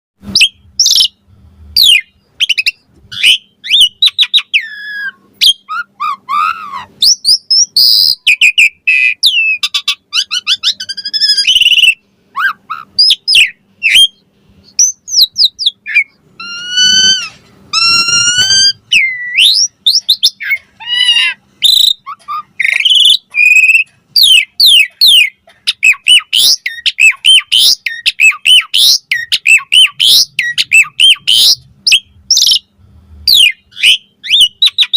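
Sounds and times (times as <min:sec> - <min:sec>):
starling singing: 0:00.3 - 0:01.2, 0:01.8 - 0:34.9.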